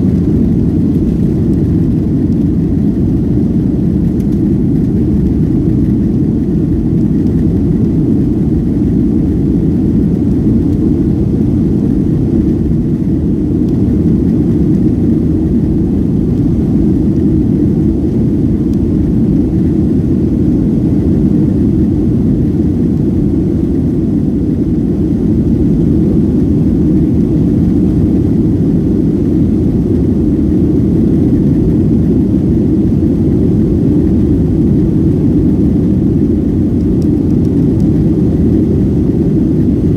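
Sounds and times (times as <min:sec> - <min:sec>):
jet engines heard from cabin: 0:00.0 - 0:39.9.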